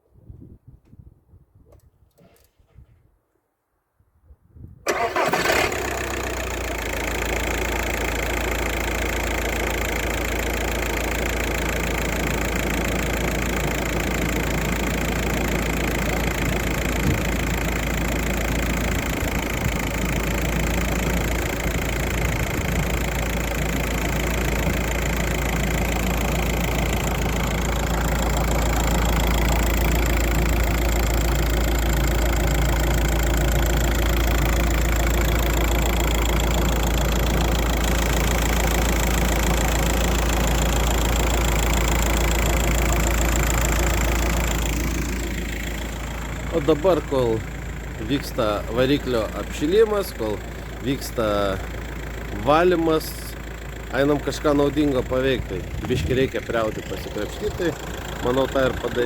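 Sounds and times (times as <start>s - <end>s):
diesel engine idling: 4.9s - 59.0s.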